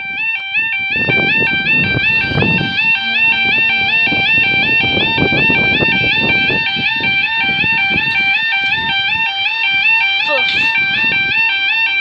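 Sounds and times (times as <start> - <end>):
electronic two-tone crossing alarm: 0.0 - 12.0
low rumbling wind noise: 0.0 - 12.0.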